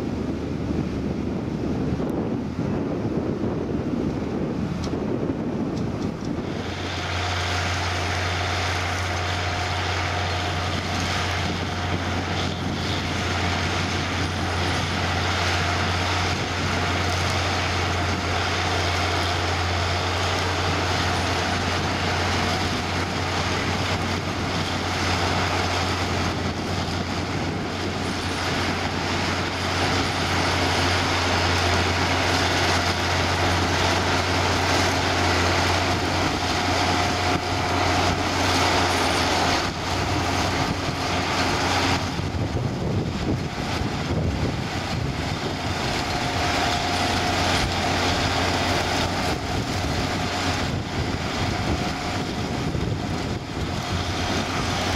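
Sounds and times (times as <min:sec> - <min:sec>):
harvester and tractor machinery: 0:00.0 - 0:54.9.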